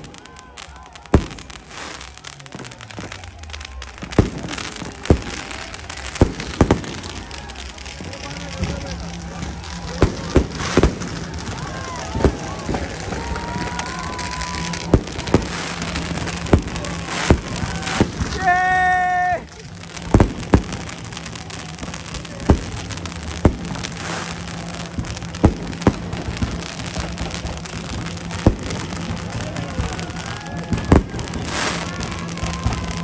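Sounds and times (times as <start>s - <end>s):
crowd background noise: 0.0s - 33.0s
fireworks bangs: 0.0s - 33.0s.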